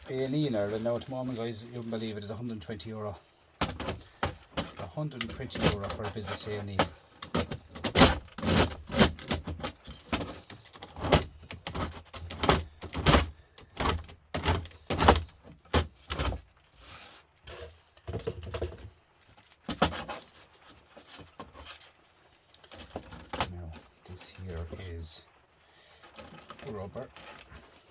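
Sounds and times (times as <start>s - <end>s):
metal scrap clinking and scraping: 0.0s - 25.2s, 26.0s - 27.9s.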